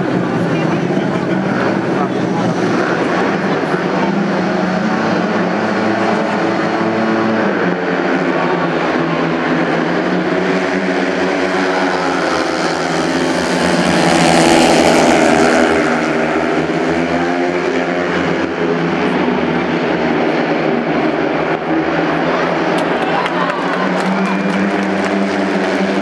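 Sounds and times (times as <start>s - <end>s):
motorcycles racing at high revs: 0.0s - 26.0s.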